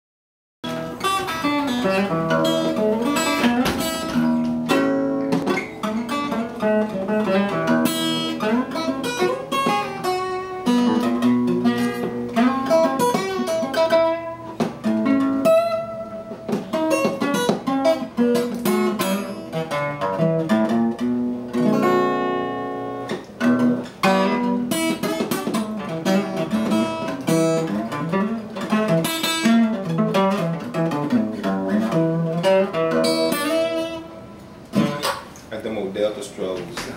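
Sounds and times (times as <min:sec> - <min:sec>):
acoustic guitar blues: 0:00.6 - 0:36.9.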